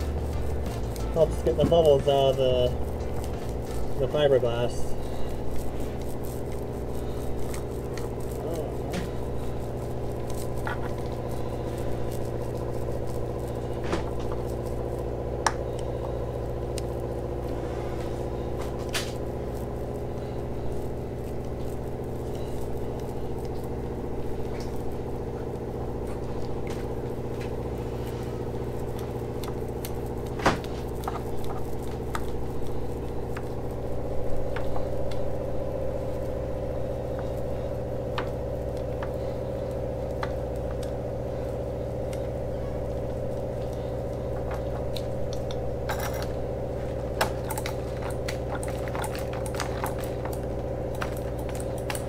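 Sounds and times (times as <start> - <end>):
roller clicking and crackling: 0.0 - 52.0
steady mechanical hum: 0.0 - 52.0.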